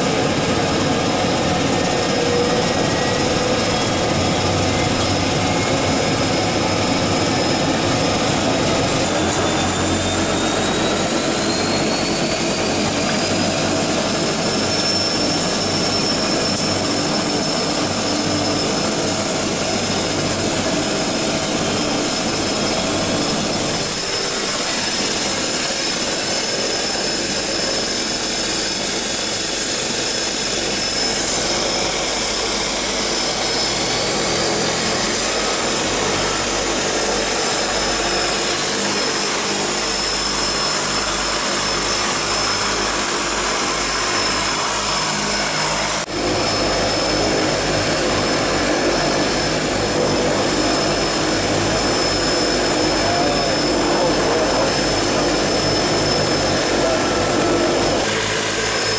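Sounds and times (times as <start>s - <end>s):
turboprop engines whining: 0.0s - 58.9s.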